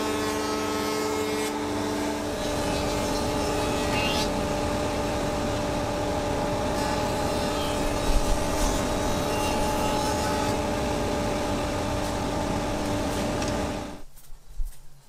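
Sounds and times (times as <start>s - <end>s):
bandsaw running: 1.6s - 14.0s.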